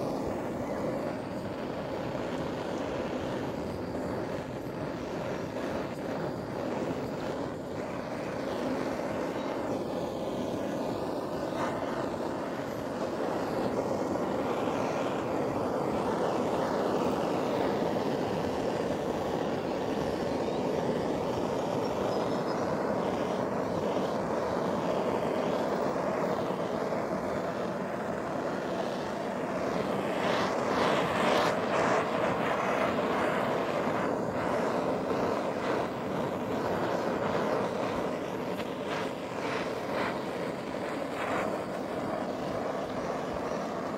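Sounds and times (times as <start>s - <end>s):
air-blowing power tool running: 0.0s - 43.9s.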